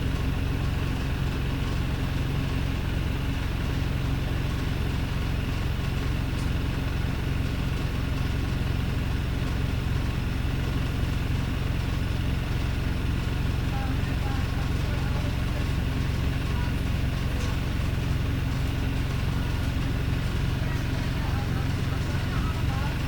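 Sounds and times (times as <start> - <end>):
diesel bus engine idling roughly: 0.0 - 23.0.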